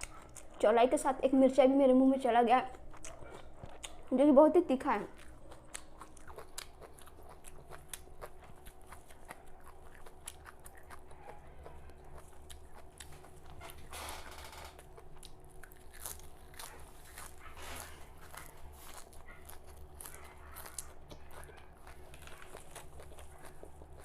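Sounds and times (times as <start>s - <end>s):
chewing crisp leaves: 0.0s - 13.9s, 14.7s - 24.0s.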